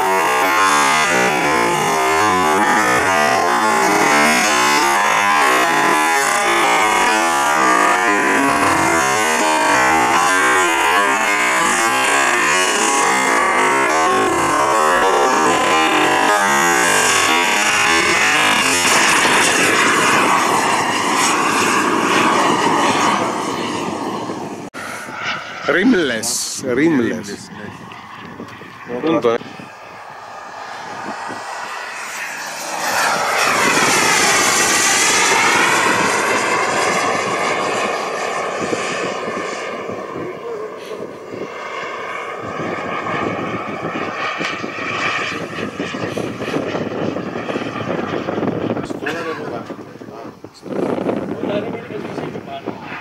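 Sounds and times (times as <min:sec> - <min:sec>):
model jet turbine engine roaring: 0:00.0 - 0:53.0.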